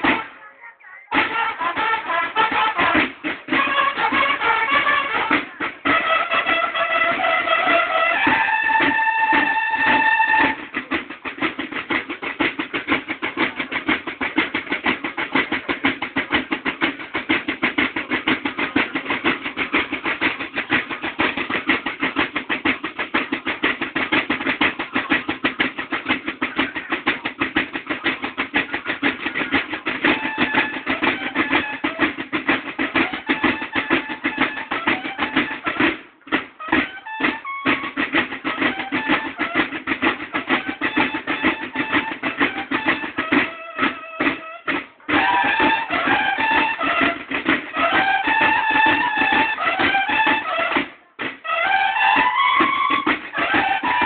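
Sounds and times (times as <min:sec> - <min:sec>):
bugles sounding: 0:00.0 - 0:54.0
marching drums: 0:00.0 - 0:54.0.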